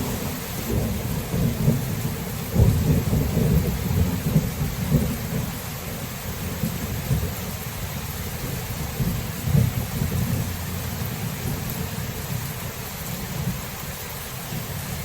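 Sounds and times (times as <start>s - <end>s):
low rolling thunder: 0.0s - 15.0s
steady rain hiss: 0.0s - 15.0s.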